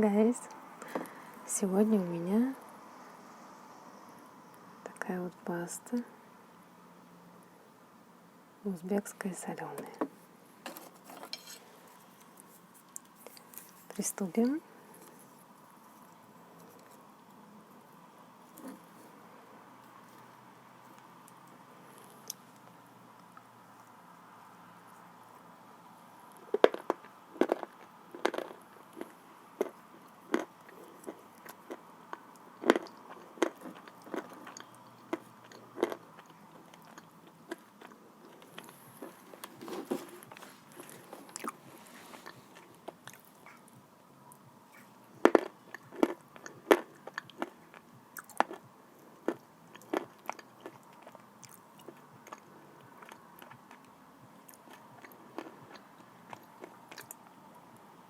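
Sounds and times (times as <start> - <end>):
soft chewing: 9.8 - 19.2, 19.8 - 25.6, 26.2 - 57.9.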